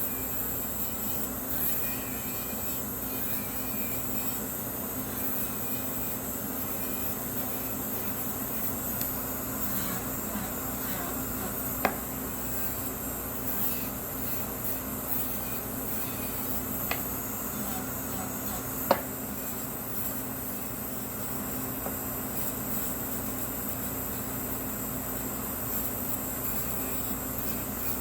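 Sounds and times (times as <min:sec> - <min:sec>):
electric nail file whine: 0:00.0 - 0:28.0.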